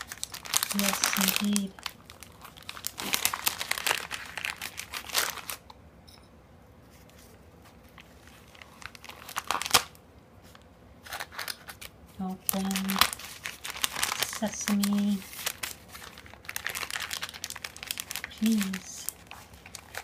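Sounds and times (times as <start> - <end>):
plastic mailer bag crinkling: 0.0 - 5.6, 7.9 - 10.0, 11.0 - 20.0.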